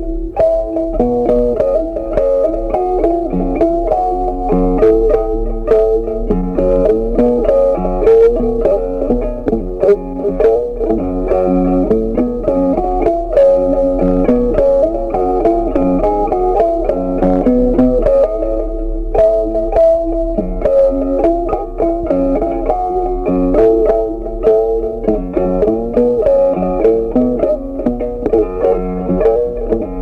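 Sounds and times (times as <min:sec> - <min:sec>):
bass line: 0:00.0 - 0:30.0
plucked guitar tune: 0:00.0 - 0:30.0.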